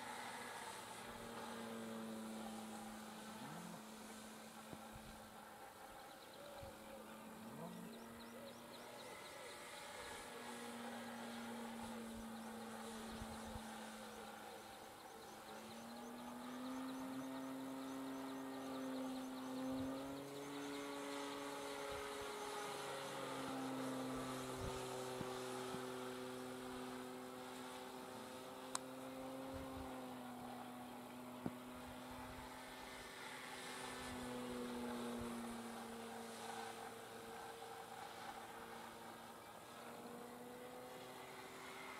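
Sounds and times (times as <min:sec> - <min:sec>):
model plane motor humming: 0:00.0 - 0:41.9.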